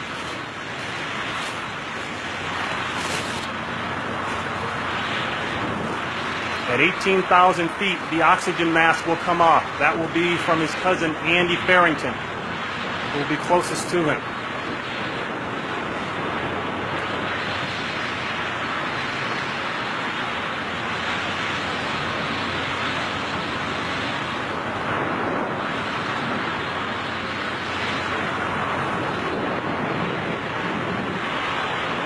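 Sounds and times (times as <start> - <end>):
rush of air on microphone: 0.0 - 32.0.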